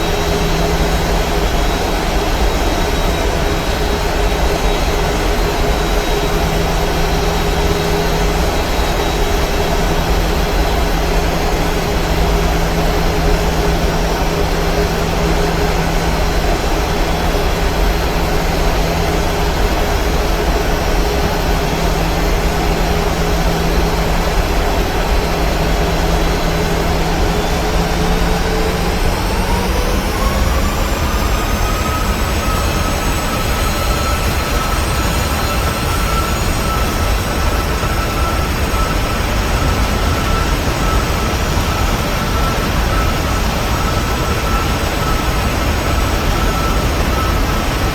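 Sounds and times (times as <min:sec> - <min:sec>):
engine whine rising in pitch: 0:00.0 - 0:47.9
jet engine roar in cabin: 0:00.0 - 0:47.9.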